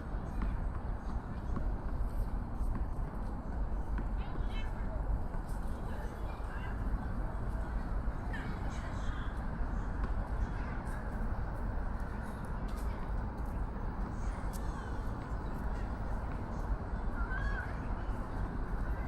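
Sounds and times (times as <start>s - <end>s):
faint distant voices: 0.0s - 19.0s
low background hum: 0.0s - 19.0s.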